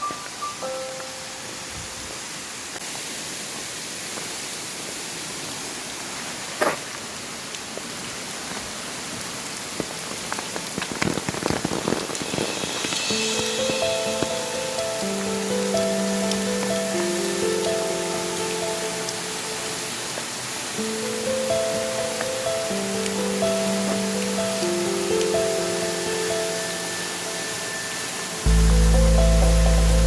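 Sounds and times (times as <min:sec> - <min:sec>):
patter of raindrops: 0:00.0 - 0:30.0
light rain hissing: 0:00.1 - 0:30.0.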